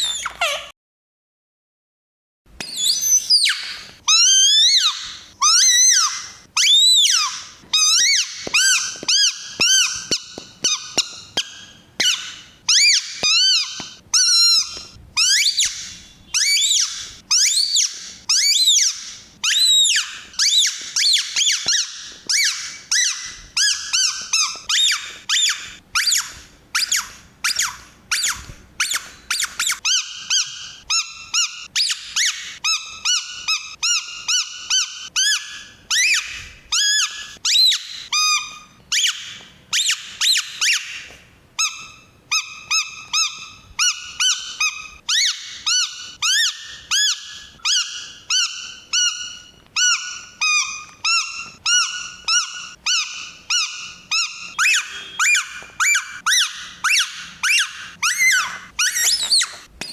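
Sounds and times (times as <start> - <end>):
squeeze toy squeaking: 0.0 - 0.7, 2.6 - 59.9.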